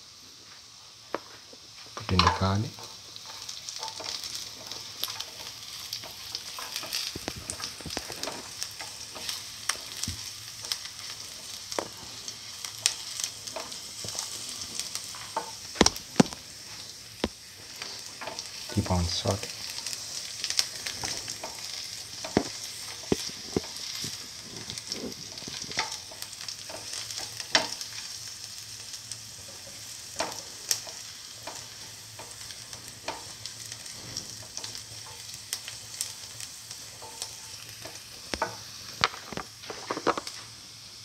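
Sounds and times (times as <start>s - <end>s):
onions sizzling in hot oil: 0.0s - 41.0s.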